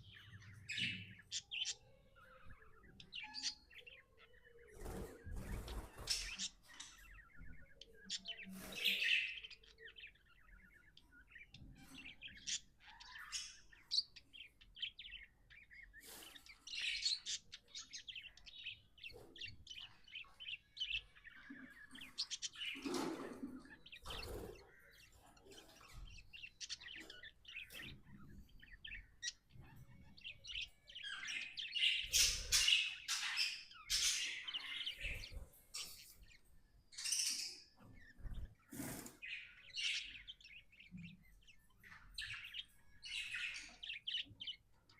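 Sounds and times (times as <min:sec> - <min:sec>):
budgie chirping and warbling: 0:00.0 - 0:41.0.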